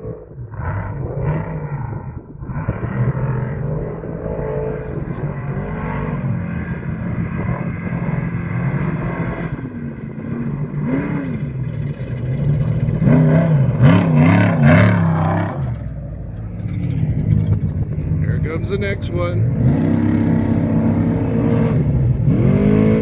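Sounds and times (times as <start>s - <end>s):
race vehicle engine revving: 0.0s - 23.0s.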